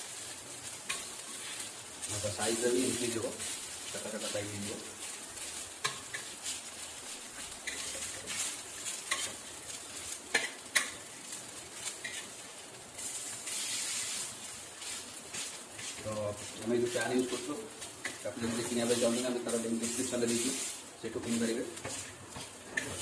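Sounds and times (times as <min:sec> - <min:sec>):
fritters sizzling in oil: 0:00.0 - 0:23.0
spatula scraping a pan: 0:00.8 - 0:01.8, 0:02.5 - 0:11.0, 0:13.0 - 0:23.0.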